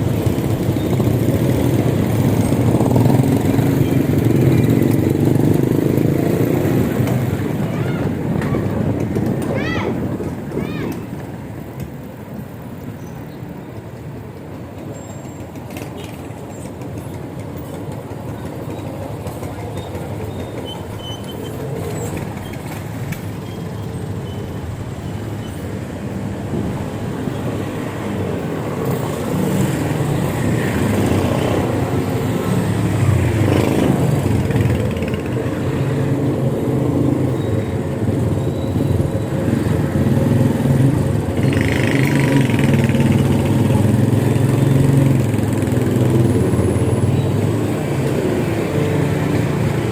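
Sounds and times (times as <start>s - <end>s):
passing vehicle engines humming: 0.0s - 49.9s
street traffic noise: 0.0s - 49.9s.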